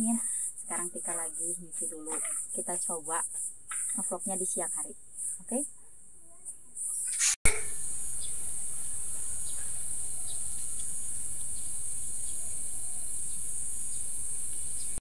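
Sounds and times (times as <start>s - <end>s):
insects chorus: 0.0s - 5.8s, 6.8s - 15.0s.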